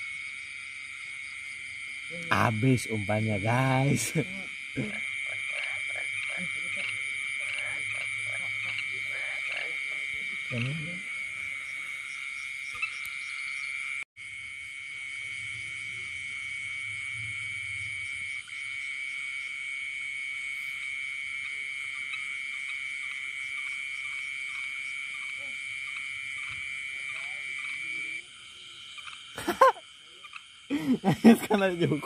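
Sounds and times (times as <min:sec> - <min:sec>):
insects and frogs trilling: 0:00.0 - 0:32.0.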